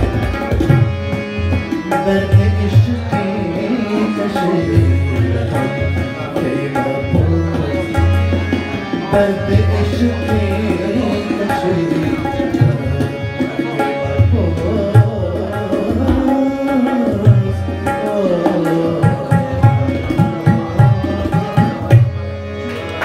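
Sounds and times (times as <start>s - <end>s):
keyboard melody of held notes: 0.0s - 23.0s
tabla drumming: 0.0s - 23.0s.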